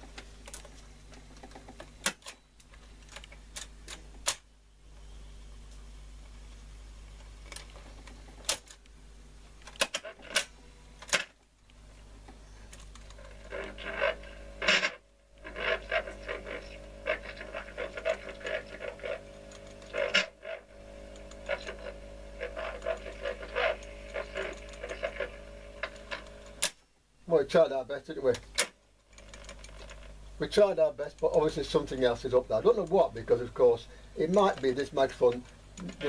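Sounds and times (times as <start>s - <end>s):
steady hum: 0.0s - 36.0s
tape playback crackling and ticking: 0.0s - 36.0s.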